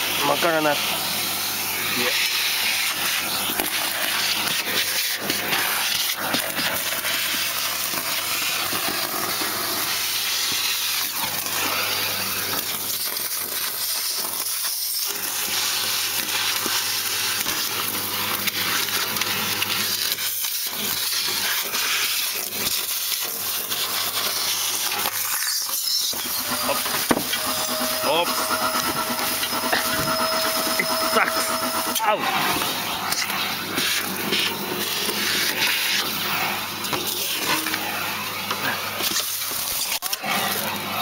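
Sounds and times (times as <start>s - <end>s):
vacuum motor hissing: 0.0s - 41.0s
debris rattling through hose: 0.2s - 41.0s.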